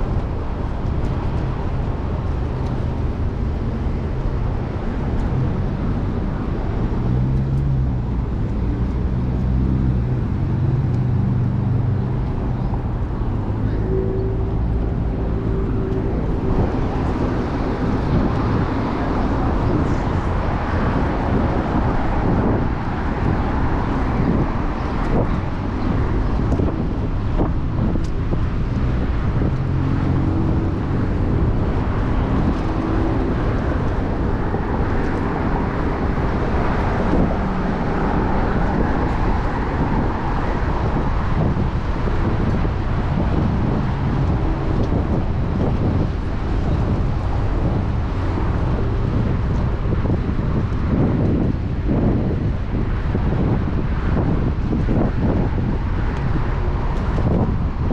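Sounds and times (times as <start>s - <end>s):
cars passing: 0.0s - 57.9s.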